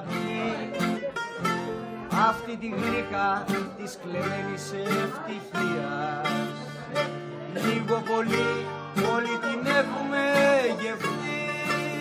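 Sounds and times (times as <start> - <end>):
man singing: 0.0 - 12.0
strummed string instrument: 0.0 - 12.0.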